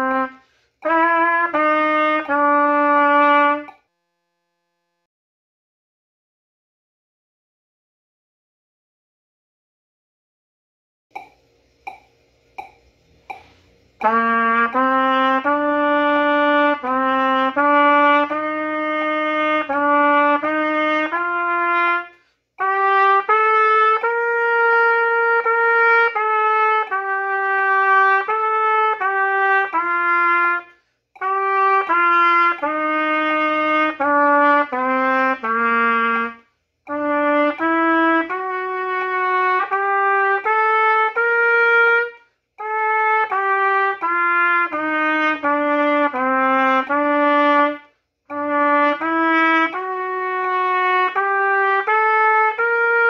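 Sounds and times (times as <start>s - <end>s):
trumpet playing: 0.0s - 5.1s, 13.3s - 53.0s.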